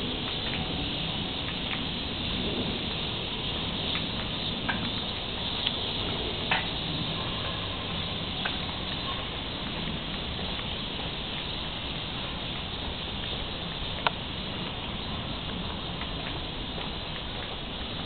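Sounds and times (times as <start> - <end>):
steady outdoor hiss: 0.0 - 18.0.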